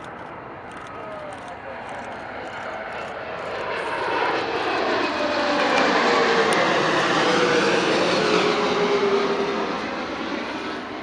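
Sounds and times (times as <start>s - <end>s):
jet airliner passing overhead: 0.0s - 11.0s
jet engine whine sliding down: 2.1s - 11.0s.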